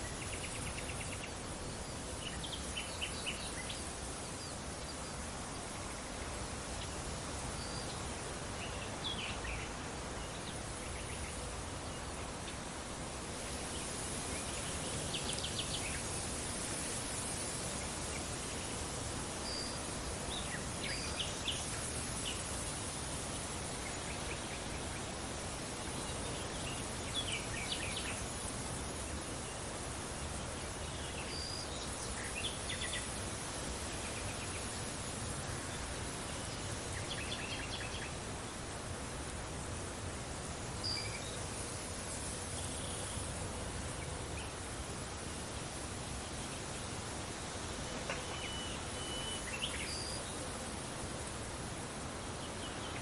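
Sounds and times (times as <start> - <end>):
wind: 0.0 - 53.0.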